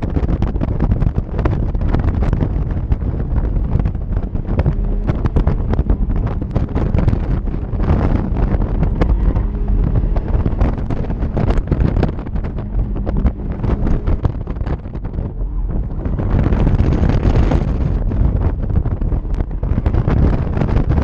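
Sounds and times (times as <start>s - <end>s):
car engine and tyres: 0.0s - 21.0s
wind buffeting microphone: 0.0s - 21.0s.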